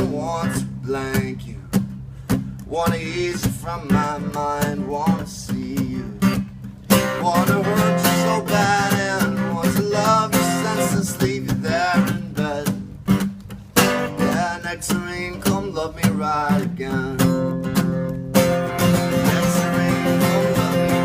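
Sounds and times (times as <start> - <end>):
man singing: 0.0 - 1.8, 2.7 - 13.0, 14.1 - 17.6, 18.7 - 21.0
acoustic guitar strumming: 0.0 - 21.0.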